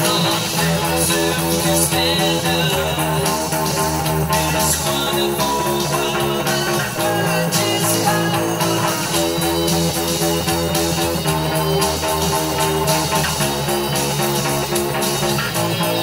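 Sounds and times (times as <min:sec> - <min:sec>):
bass guitar played fingerstyle: 0:00.0 - 0:16.0
electric guitars rock backing: 0:00.0 - 0:16.0.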